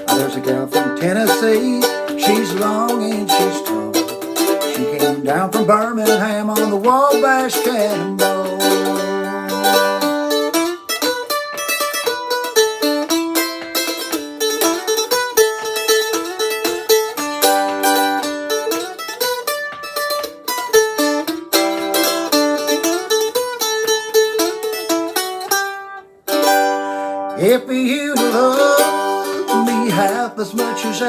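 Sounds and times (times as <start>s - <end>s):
mandolin melody picked: 0.0s - 31.0s.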